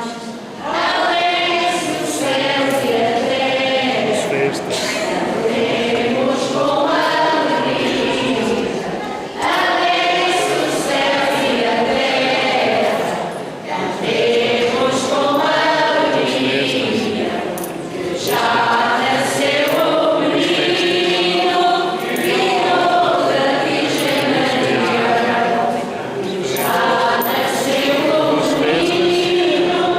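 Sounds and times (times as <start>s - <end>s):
choir singing a hymn: 0.0s - 29.9s.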